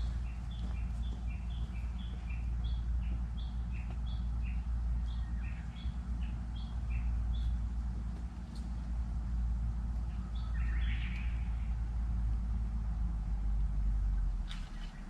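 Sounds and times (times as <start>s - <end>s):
songbird chirping: 0.0s - 15.0s
steady low rumble: 0.0s - 15.0s.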